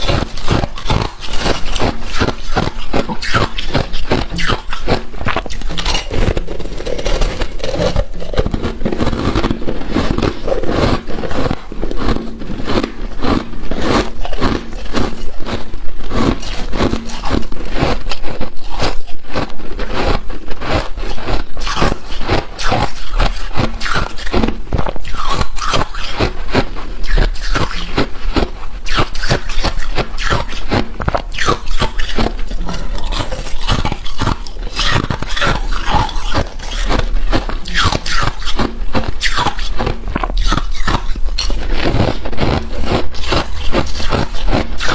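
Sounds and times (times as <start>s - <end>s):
frost scraping and crunching: 0.0s - 44.9s.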